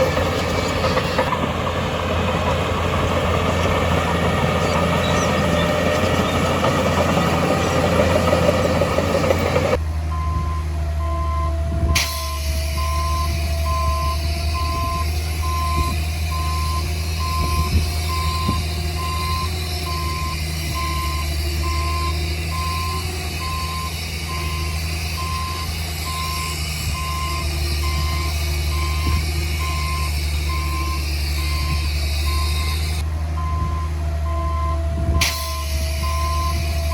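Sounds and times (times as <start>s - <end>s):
diesel engine rumble: 0.0s - 36.9s
reversing alarm beeping: 0.0s - 36.9s.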